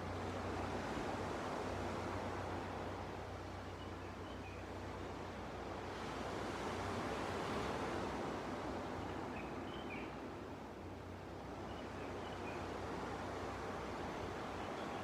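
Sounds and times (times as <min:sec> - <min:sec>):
ocean waves washing onto beach: 0:00.0 - 0:03.6, 0:04.7 - 0:15.0.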